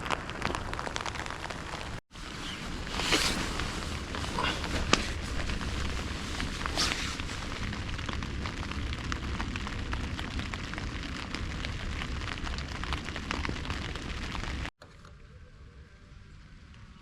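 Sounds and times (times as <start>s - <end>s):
campfire crackling and popping: 0.0s - 14.7s.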